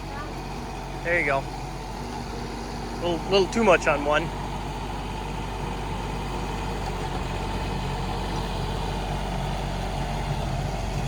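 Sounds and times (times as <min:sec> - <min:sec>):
diesel excavator engine running: 0:00.0 - 0:11.0.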